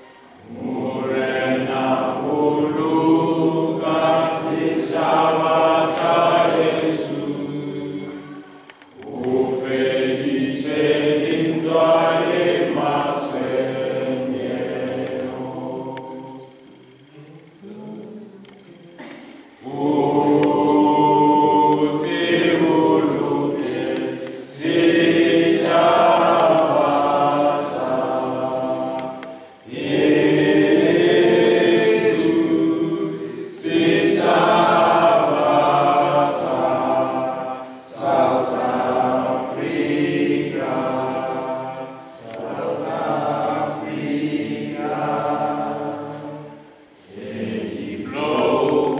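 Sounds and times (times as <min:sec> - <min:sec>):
group singing unaccompanied: 0:00.0 - 0:48.9.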